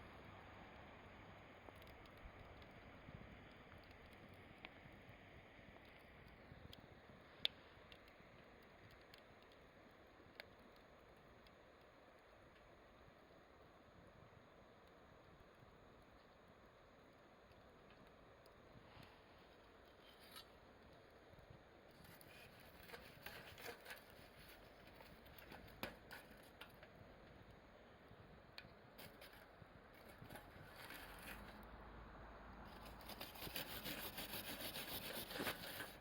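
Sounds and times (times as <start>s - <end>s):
faint campfire crackling: 0.0s - 36.0s.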